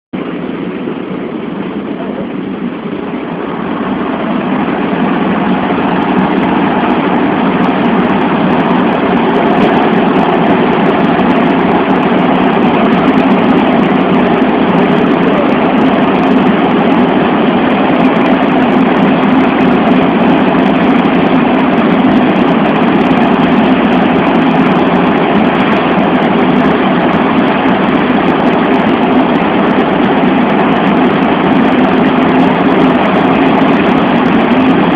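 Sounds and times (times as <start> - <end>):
aircraft engine and airflow noise: 0.2 - 34.9.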